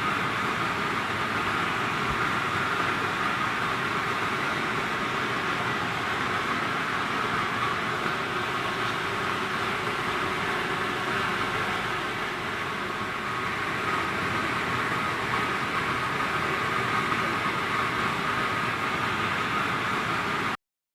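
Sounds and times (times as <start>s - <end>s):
boiler plant machinery running: 0.0s - 20.6s.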